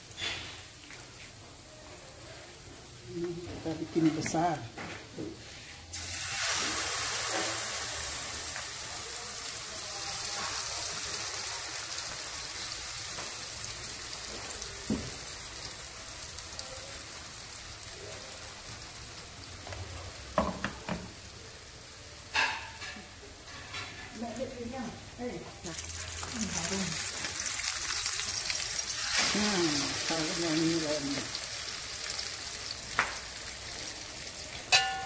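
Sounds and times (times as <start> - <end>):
egg mixture sizzling in hot oil: 5.4 - 35.0.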